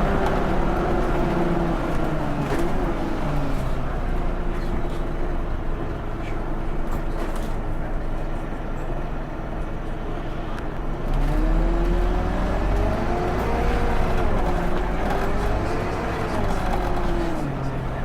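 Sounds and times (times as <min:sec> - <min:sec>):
bus engine running and revving: 0:00.0 - 0:18.0
engine whine: 0:00.0 - 0:18.0.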